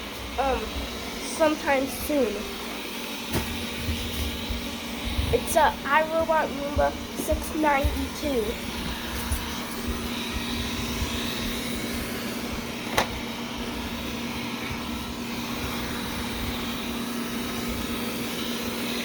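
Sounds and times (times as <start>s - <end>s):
robot vacuum running: 0.0s - 19.0s.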